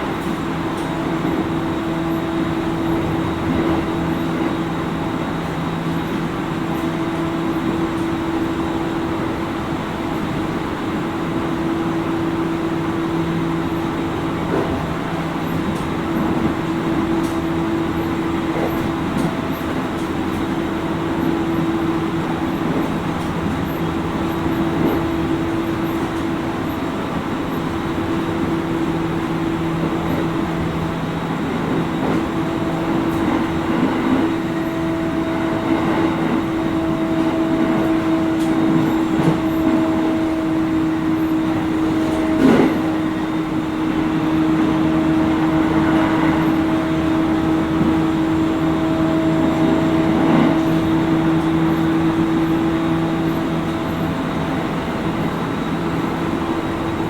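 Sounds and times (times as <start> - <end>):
electric train drive hum: 0.0 - 57.0.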